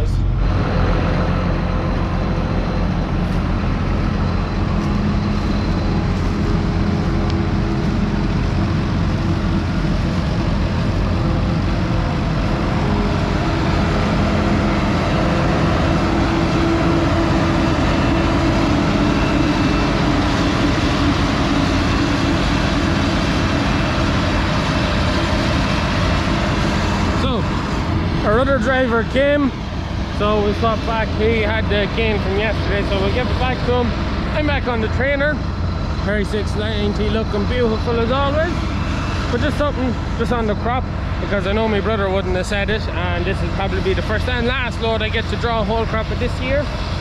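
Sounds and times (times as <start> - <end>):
tractor engine droning: 0.0 - 47.0.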